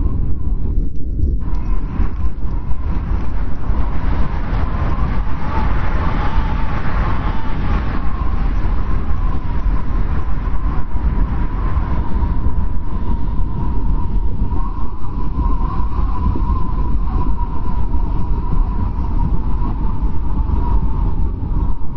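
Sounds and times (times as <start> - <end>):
strong wind whistling: 0.0 - 21.9.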